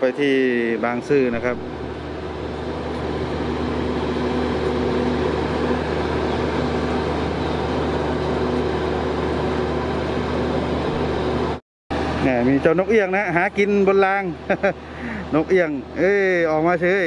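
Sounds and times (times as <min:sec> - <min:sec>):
train idling hum: 0:00.0 - 0:17.0.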